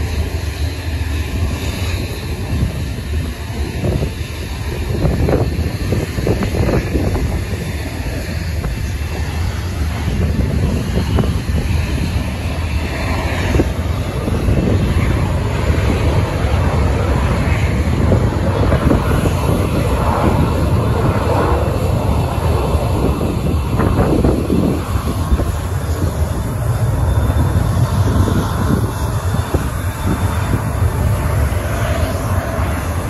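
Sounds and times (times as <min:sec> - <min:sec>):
jet engine noise: 0:00.0 - 0:33.0
wind buffeting microphone: 0:00.0 - 0:33.0.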